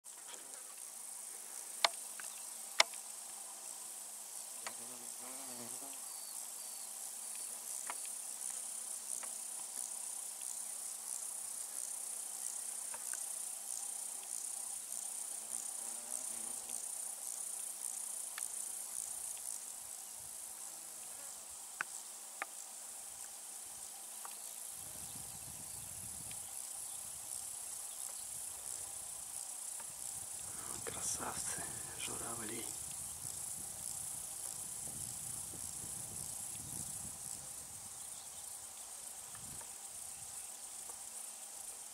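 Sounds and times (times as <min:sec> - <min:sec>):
insects chirring: 0:00.1 - 0:41.9.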